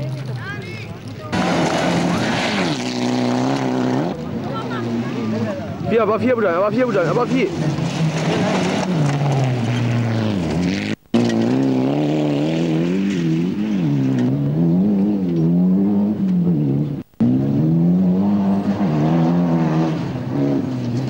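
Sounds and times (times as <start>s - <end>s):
rally car engines revving: 0.0s - 21.0s.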